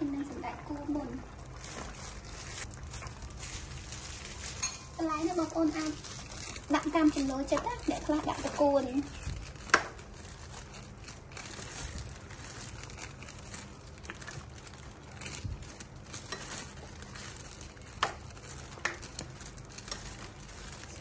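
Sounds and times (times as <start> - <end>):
faint sizzle: 0.0 - 21.0
low steady hum: 0.0 - 21.0.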